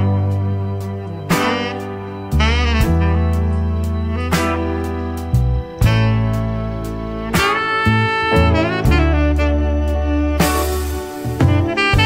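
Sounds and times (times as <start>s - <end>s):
instrumental music with bass line: 0.0s - 12.0s.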